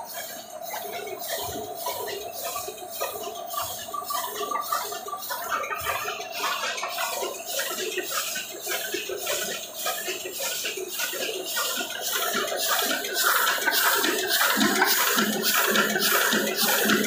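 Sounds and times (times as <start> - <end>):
mechanical hum: 0.0 - 17.0
printing press clattering: 0.1 - 17.0.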